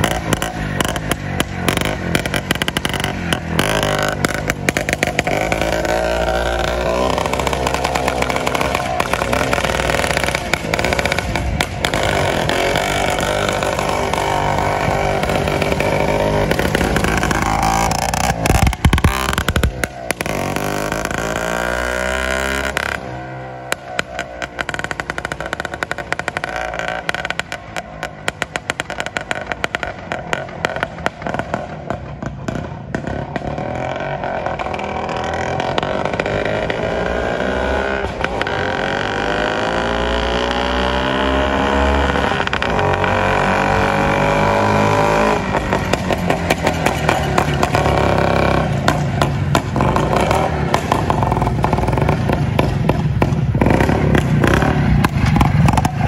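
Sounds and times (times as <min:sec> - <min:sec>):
crackling exhaust: 0:00.0 - 0:56.0
two-stroke motorcycle revving: 0:00.0 - 0:56.0.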